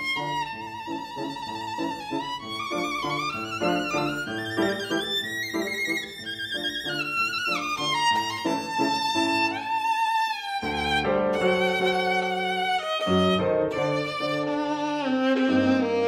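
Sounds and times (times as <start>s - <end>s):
violin melody with vibrato: 0.0s - 16.0s.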